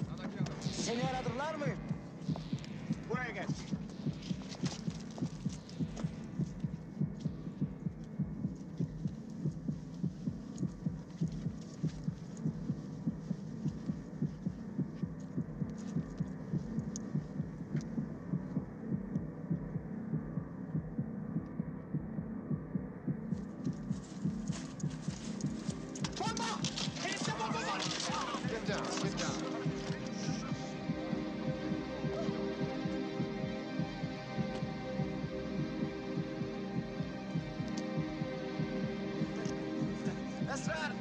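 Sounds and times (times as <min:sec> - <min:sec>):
amplified heartbeat thumps: 0:00.0 - 0:41.0.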